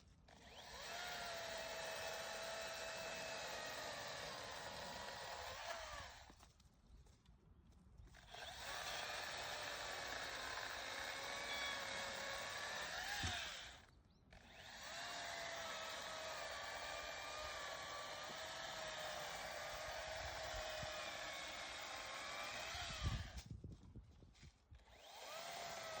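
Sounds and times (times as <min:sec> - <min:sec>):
electric chainsaw motor whine: 0:00.3 - 0:06.4, 0:08.1 - 0:23.5, 0:24.8 - 0:26.0.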